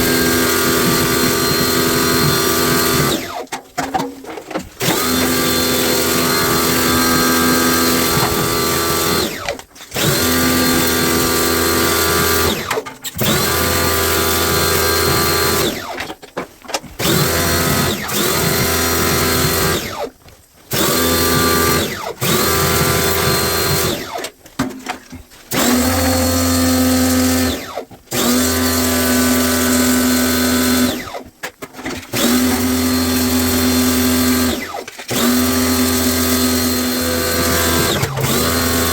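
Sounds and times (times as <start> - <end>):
cordless drill whining: 0.0 - 3.5, 4.8 - 16.2, 17.0 - 24.3, 25.5 - 31.3, 32.1 - 38.9.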